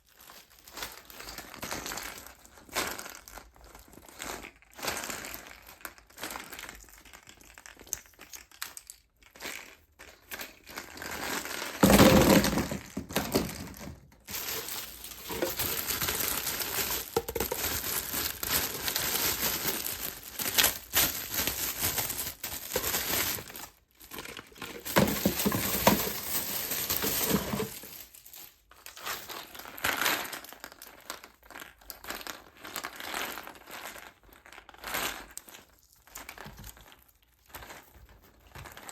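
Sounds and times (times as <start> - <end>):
wrappers crinkling and tearing: 0.0 - 38.9.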